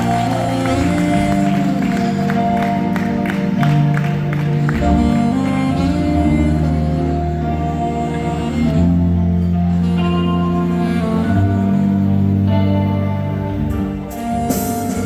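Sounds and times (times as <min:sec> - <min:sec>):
saxophone melody: 0:00.0 - 0:15.0.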